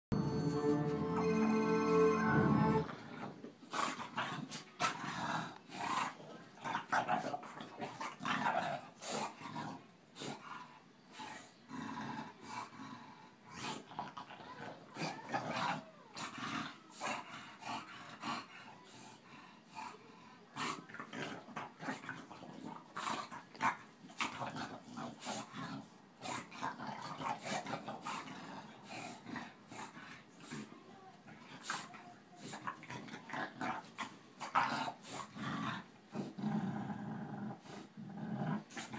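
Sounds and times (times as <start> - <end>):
dogs growling: 2.8 - 30.7, 31.3 - 38.9.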